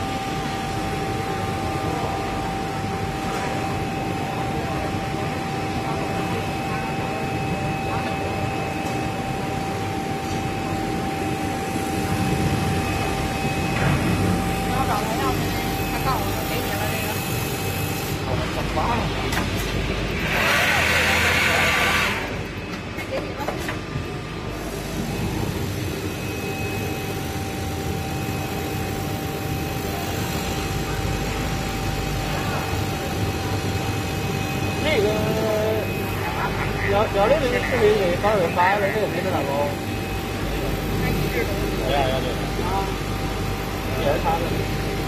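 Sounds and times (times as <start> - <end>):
sewing machine hum and whine: 0.0 - 45.0.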